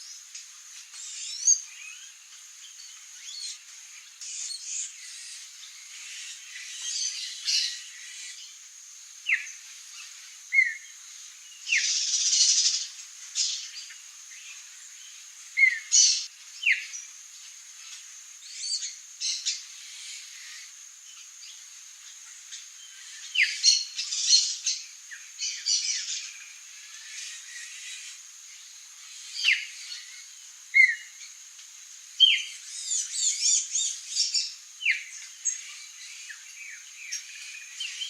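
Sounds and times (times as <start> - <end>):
songbirds calling: 0.0 - 38.0.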